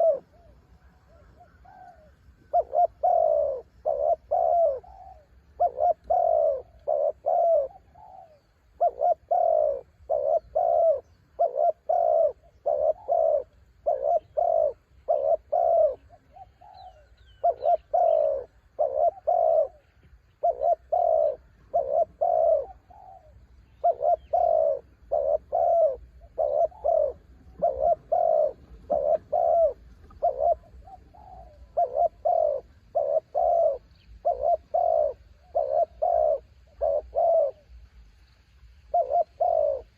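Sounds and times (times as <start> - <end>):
dove cooing: 0.0 - 37.8, 38.8 - 39.9
faint bird chirps: 0.0 - 39.9.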